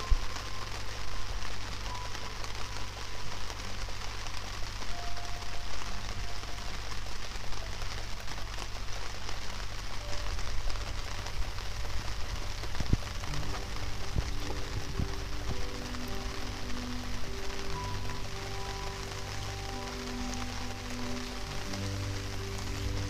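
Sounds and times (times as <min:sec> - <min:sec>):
rain on gravel and puddle: 0:00.0 - 0:23.0.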